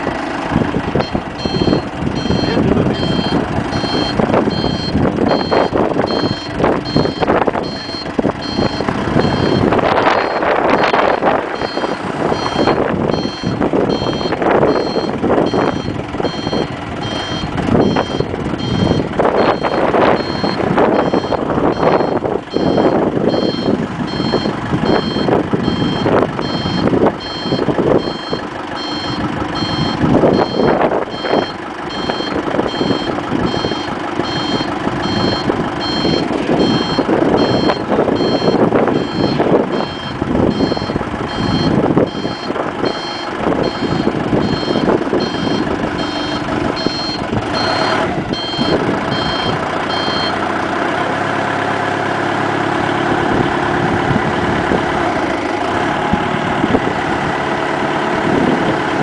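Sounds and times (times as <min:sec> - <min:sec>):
forklift engine working: 0:00.0 - 0:59.0
forklift reversing alarm beeping: 0:01.0 - 0:50.4.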